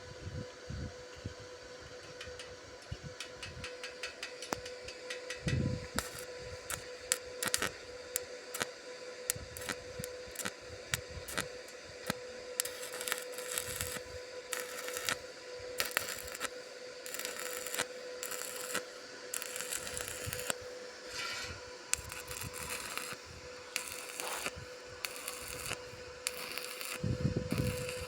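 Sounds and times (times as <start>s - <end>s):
electrical hum: 0.0s - 28.0s
arc welding crackle and sizzle: 0.7s - 28.0s.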